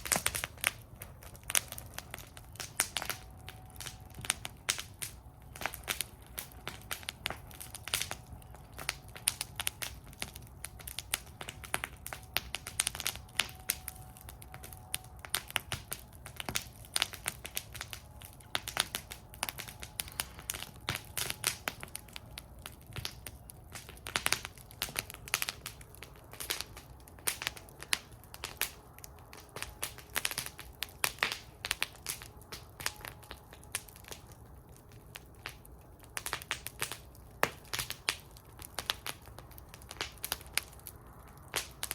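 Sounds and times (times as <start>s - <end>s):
low rumble of flames: 0.0s - 41.9s
wood fire crackling and popping: 0.0s - 41.9s.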